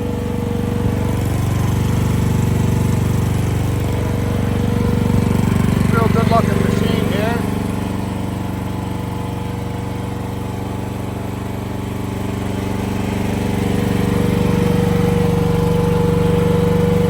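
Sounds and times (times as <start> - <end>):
mini excavator engine idling: 0.0 - 17.0.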